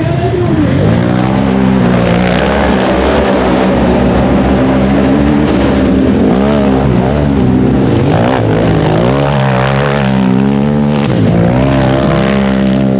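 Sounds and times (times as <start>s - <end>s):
race engine revving hard: 0.0s - 12.9s.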